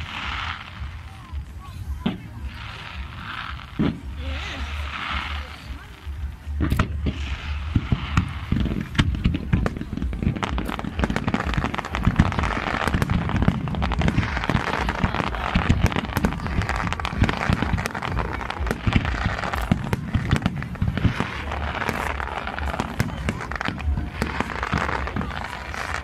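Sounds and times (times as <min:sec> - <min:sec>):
fireworks bangs and pops: 0:00.0 - 0:26.0.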